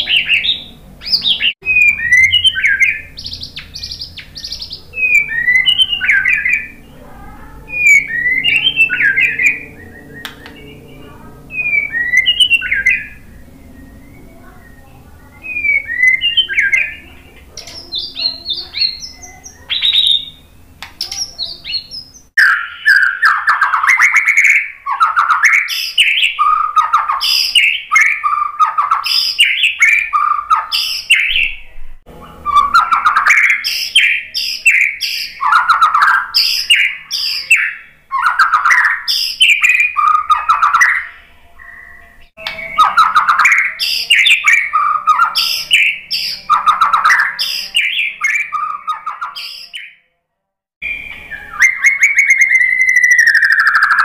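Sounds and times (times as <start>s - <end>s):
bird whistling song: 0.0s - 50.0s, 50.8s - 54.0s.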